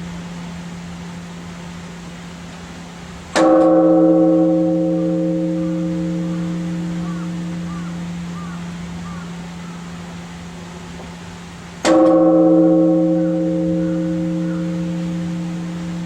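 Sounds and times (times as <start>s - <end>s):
large temple bell struck: 0.0s - 2.3s, 3.3s - 10.5s, 11.8s - 16.0s.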